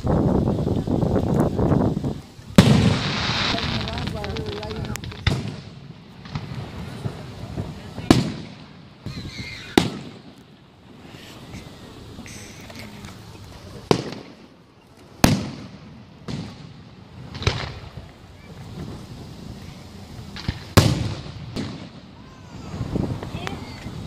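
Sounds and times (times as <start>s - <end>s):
fireworks bursting with echoing rumble: 0.0s - 24.0s.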